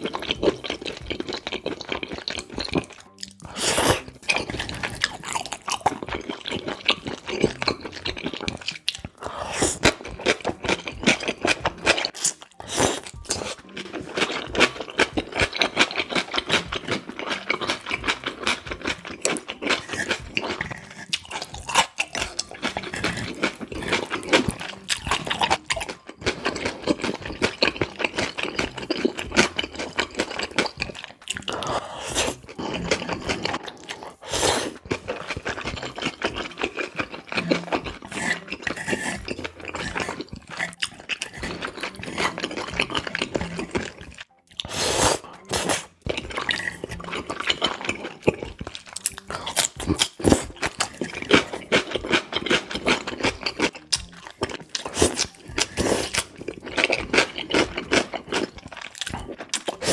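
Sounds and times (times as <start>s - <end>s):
slurping noodles: 0.0s - 59.9s
wet chewing and mouth smacking: 0.0s - 59.9s.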